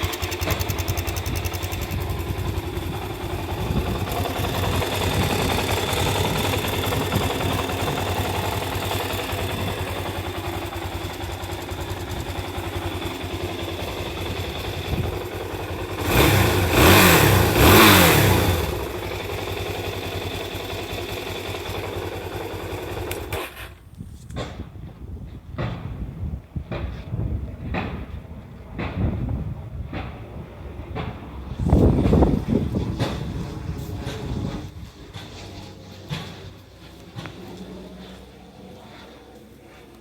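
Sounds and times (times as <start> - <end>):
motorcycle engine idling and revving: 0.0 - 40.0.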